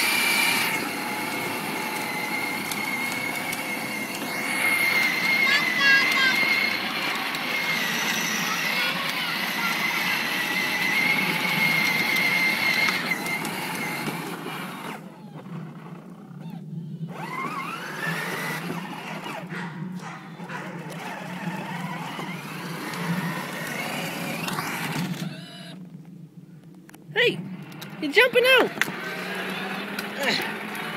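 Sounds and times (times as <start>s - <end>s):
electric motor whine: 0.0s - 19.7s, 20.4s - 25.9s, 27.5s - 30.9s
plastic wheels rumbling on asphalt: 0.0s - 30.9s.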